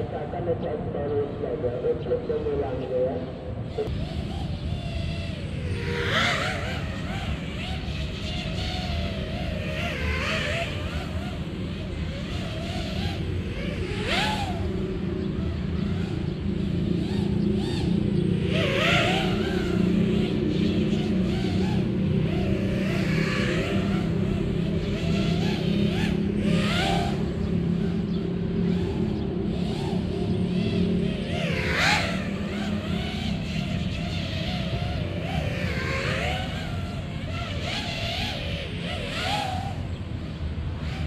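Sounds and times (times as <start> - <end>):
drone motors whining: 0.0 - 41.0
steady low hum: 0.0 - 41.0.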